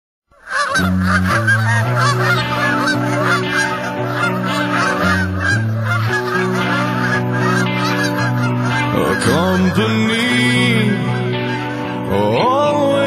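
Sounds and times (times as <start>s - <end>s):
geese honking: 0.3s - 13.0s
music with low chords: 0.8s - 13.0s.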